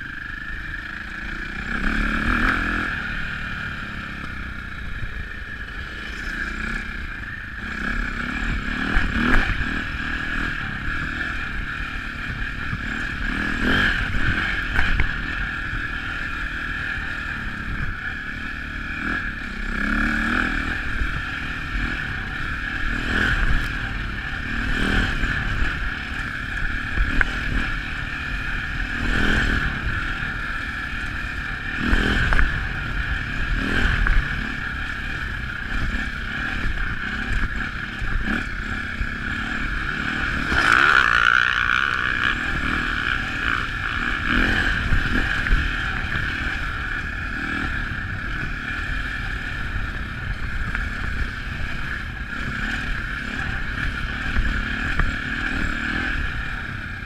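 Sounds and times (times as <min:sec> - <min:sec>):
dirt bike engine running hard: 0:00.0 - 0:57.0.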